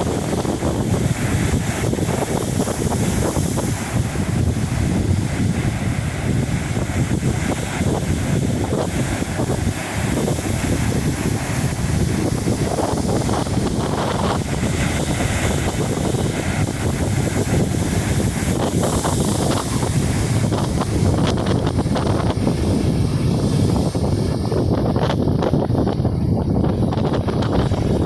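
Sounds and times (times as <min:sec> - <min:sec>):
ocean surf: 0:00.0 - 0:28.0
wind buffeting microphone: 0:00.0 - 0:28.0.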